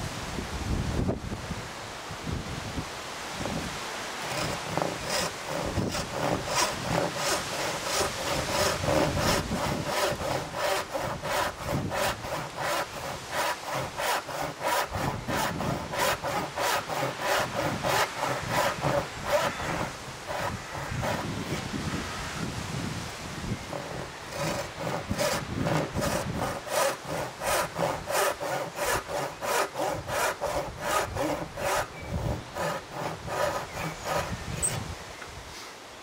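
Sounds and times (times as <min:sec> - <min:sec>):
backsaw cutting wood: 0:04.2 - 0:21.8, 0:23.4 - 0:34.8.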